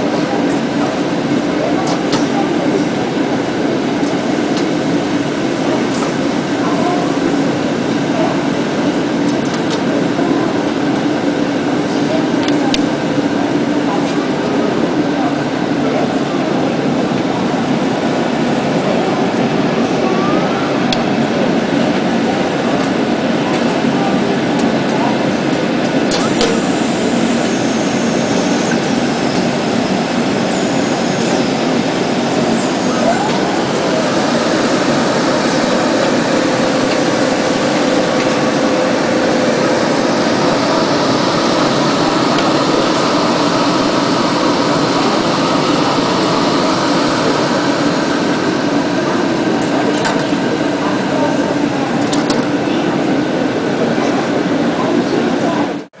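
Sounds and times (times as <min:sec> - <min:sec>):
blower running steadily: 0:00.0 - 0:56.0
faint voices: 0:00.0 - 0:56.0.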